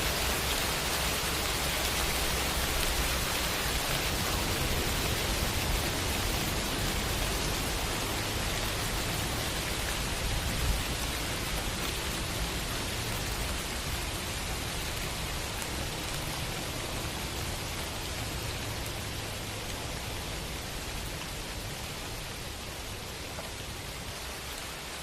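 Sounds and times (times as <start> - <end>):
falling rain hiss: 0.0 - 25.0.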